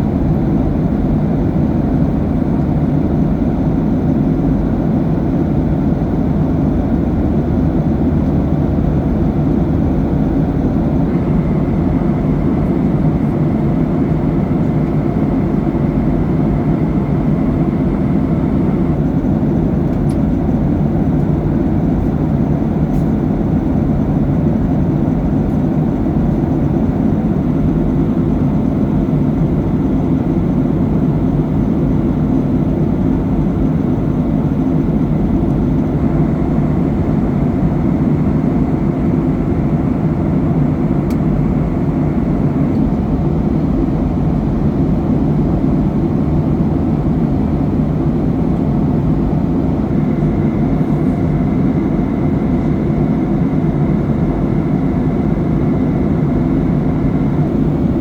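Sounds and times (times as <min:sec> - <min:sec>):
airplane cabin airflow and engines: 0:00.0 - 0:58.0.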